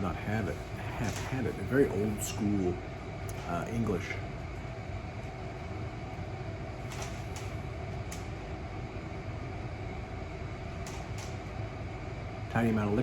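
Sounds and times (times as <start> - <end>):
ventilation fan hum: 0.0 - 13.0.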